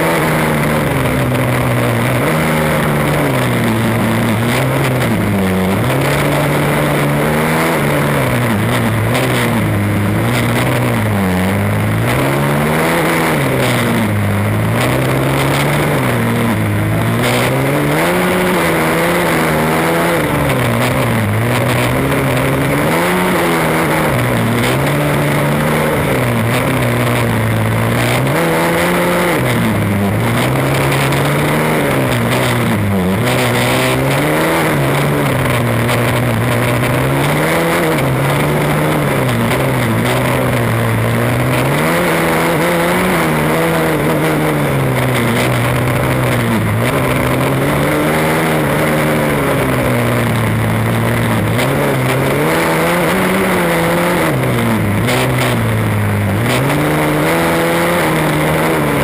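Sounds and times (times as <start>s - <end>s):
race car engine accelerating and slowing: 0.0s - 59.0s.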